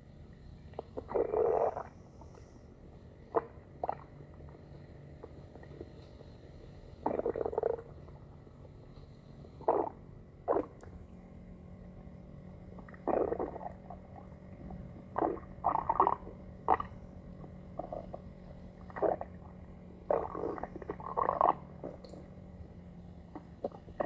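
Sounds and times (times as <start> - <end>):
stomach growling: 0.6 - 2.6, 3.2 - 8.8, 9.4 - 11.2, 12.3 - 24.0.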